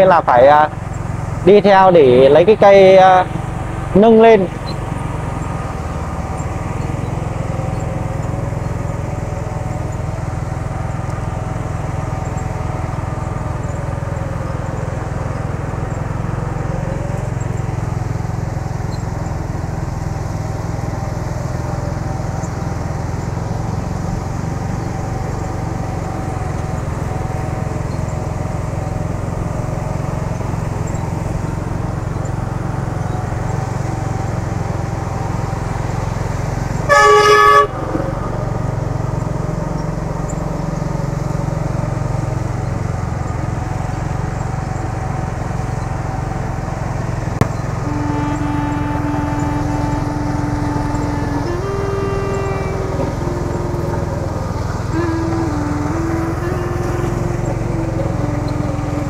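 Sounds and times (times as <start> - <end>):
motorbike engine: 0.0 - 59.0
truck engine drone: 0.0 - 59.0.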